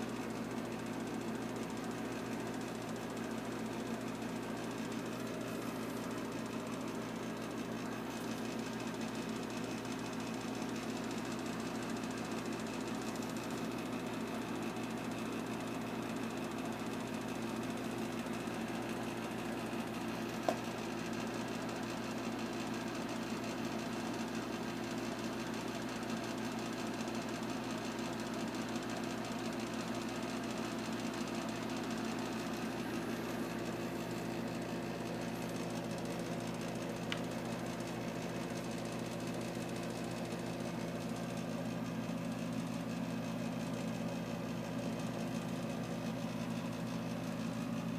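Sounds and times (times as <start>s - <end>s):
mechanical hum with buzzing rattle: 0.0s - 47.9s.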